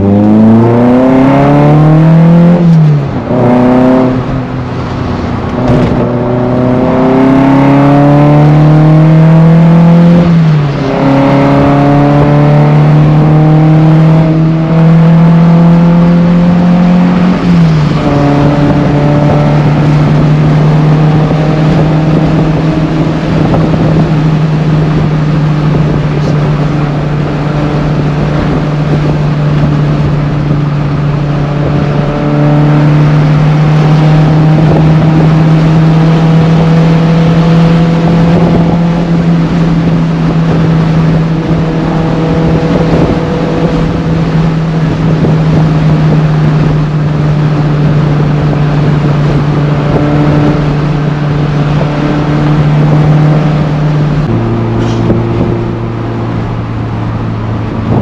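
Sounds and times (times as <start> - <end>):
car engine droning: 0.0 - 58.0
road and wind noise: 0.0 - 58.0.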